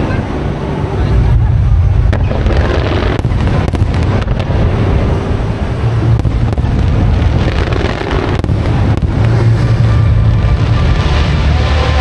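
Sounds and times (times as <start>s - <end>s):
fireworks bursts rumbling: 0.0s - 12.0s
wind buffeting microphone: 0.0s - 12.0s
fireworks sharp cracks: 2.1s - 12.0s.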